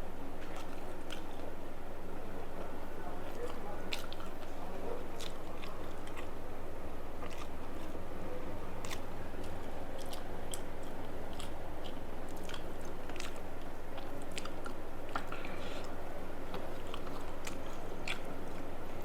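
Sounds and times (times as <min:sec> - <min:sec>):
chewing fried food: 0:00.0 - 0:19.0.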